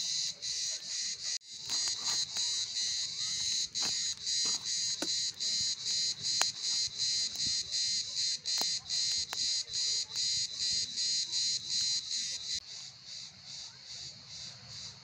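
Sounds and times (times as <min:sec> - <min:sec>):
cicadas pulsing drone: 0:00.0 - 0:15.0.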